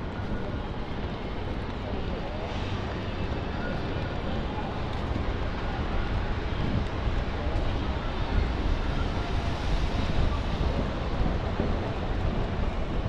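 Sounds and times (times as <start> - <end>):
traffic: 0.0 - 13.0
wind rumble on microphone: 0.0 - 13.0.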